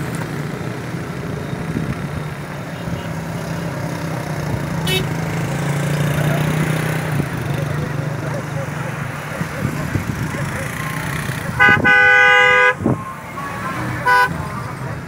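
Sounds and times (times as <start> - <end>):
cars and motorcycles driving past: 0.0 - 15.0.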